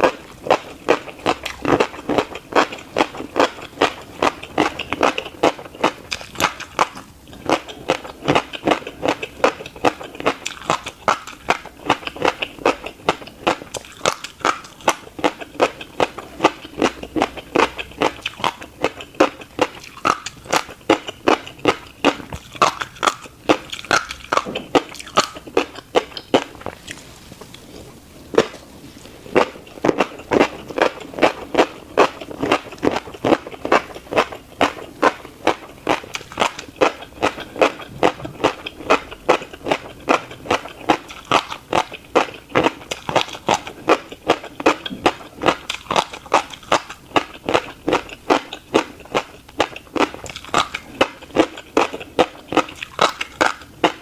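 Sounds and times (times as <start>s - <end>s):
crunchy chewing of seeds: 0.0s - 54.0s.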